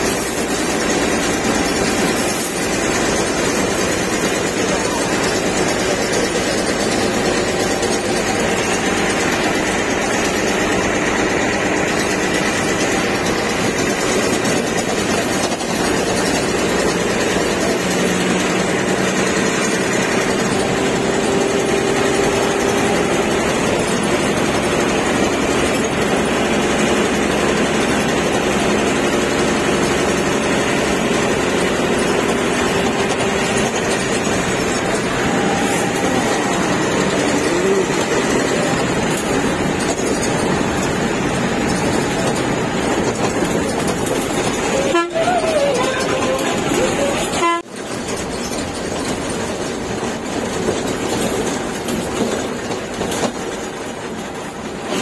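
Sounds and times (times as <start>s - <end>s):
bus engine running: 0.0s - 55.0s
road noise: 0.0s - 55.0s.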